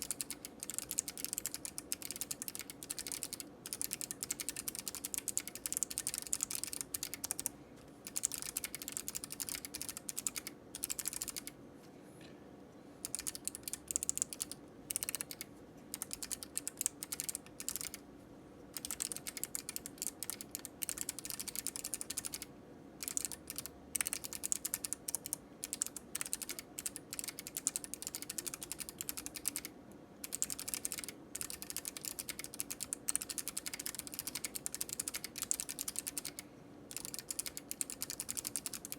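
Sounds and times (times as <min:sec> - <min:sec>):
mechanical keyboard key clicks: 0:00.0 - 0:11.5, 0:13.0 - 0:18.0, 0:18.8 - 0:22.4, 0:23.0 - 0:38.9.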